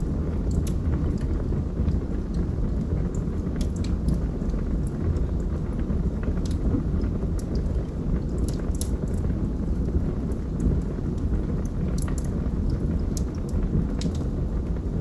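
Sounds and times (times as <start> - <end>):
fire flames rumbling: 0.0 - 15.0
logs crackling and popping: 0.1 - 14.9.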